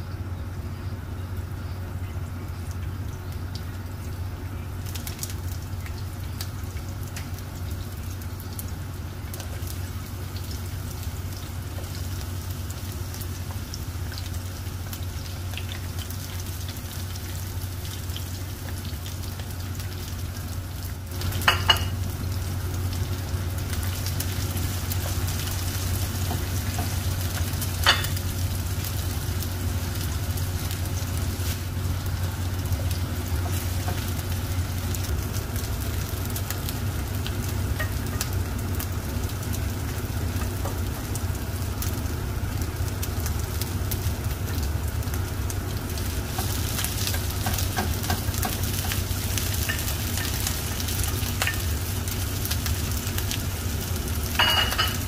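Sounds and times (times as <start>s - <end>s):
low steady hum: 0.0s - 55.0s
vegetables sizzling in oil: 2.9s - 55.0s.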